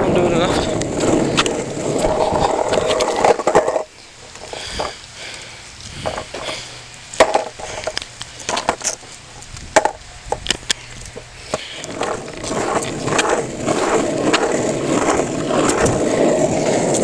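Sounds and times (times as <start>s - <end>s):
longboard wheels rolling on asphalt: 0.0s - 17.0s.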